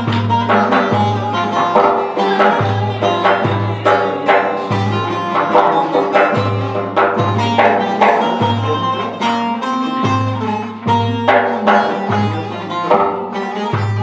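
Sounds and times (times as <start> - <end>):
plucked string folk melody: 0.0 - 14.0
pulsing low bass: 0.0 - 14.0.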